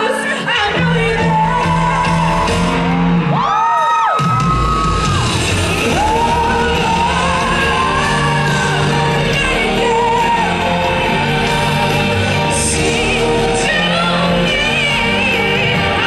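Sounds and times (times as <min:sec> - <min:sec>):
woman singing a pop ballad: 0:00.0 - 0:02.8, 0:06.0 - 0:16.0
band backing: 0:00.0 - 0:16.0.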